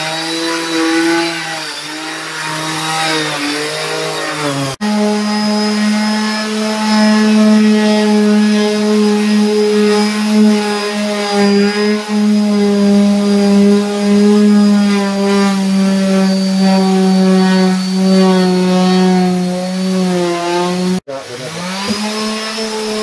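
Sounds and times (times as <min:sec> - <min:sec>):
electric sander buzzing: 0:00.0 - 0:23.0.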